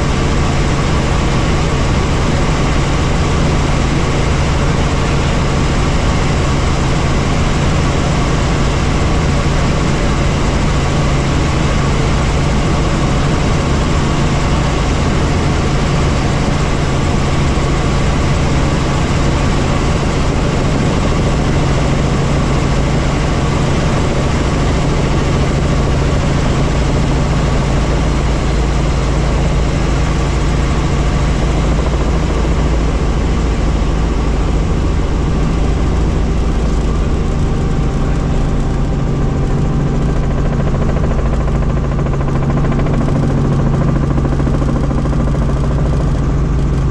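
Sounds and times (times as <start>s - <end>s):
helicopter engine and rotors: 0.0s - 46.9s.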